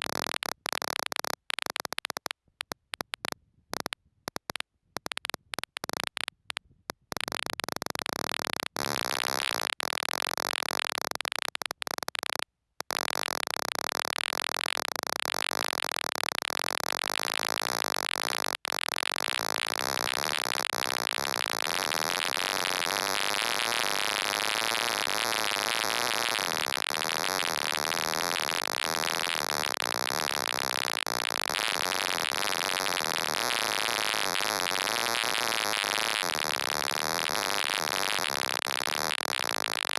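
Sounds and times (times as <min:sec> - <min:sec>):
electronic static hiss: 0:07.2 - 0:39.9.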